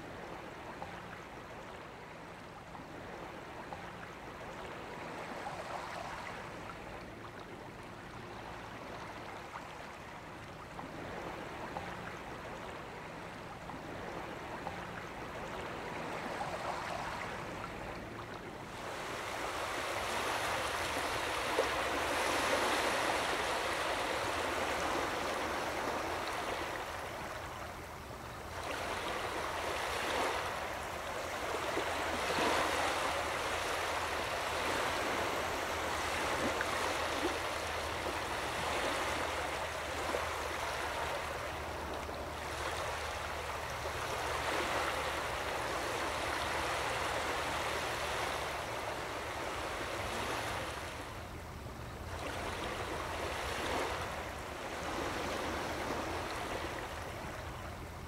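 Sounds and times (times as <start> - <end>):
small waves washing over beach: 0.0 - 58.0.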